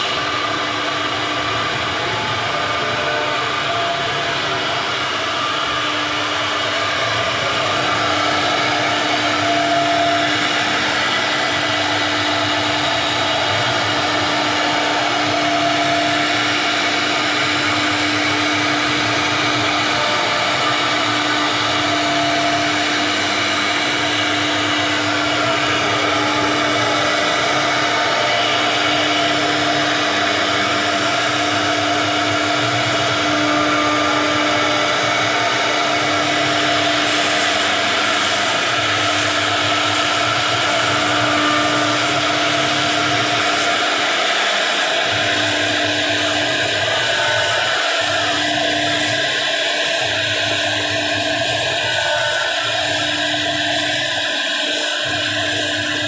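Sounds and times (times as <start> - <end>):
router spindle whine carving wood: 0.0 - 56.0.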